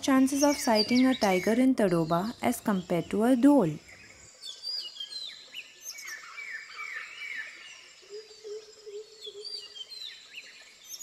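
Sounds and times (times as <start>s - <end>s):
birds whistling and chirping: 0.1s - 3.2s, 3.8s - 11.0s.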